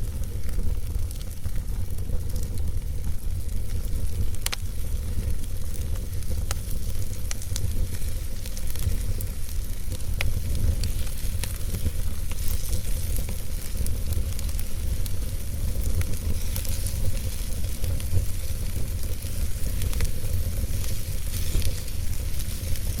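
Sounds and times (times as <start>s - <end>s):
fire rumbling and hissing: 0.0s - 23.0s
logs crackling and popping: 0.0s - 23.0s.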